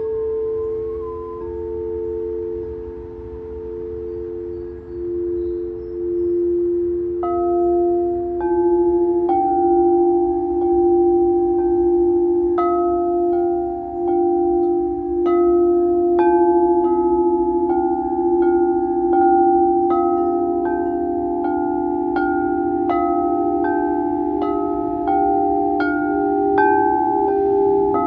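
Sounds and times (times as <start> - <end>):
singing bowls struck: 0.0 - 28.0
sustained bowl drone: 0.0 - 28.0.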